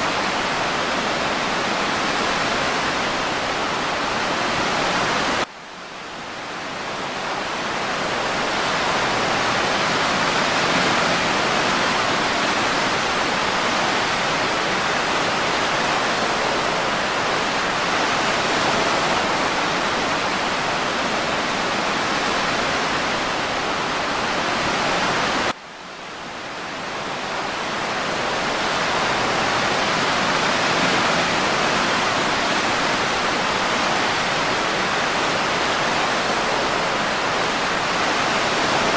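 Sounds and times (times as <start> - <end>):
ocean waves and breeze rushing: 0.0 - 38.9.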